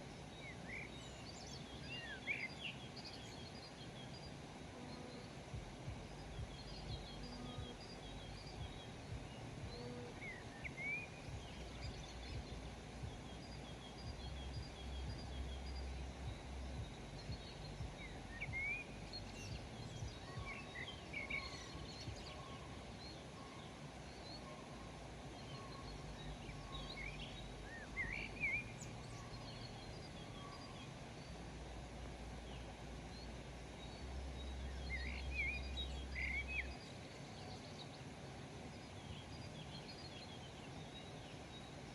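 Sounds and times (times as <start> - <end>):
faint low rumble: 0.0 - 41.9
outdoor hiss: 0.0 - 41.9
small birds chirping: 0.0 - 41.9.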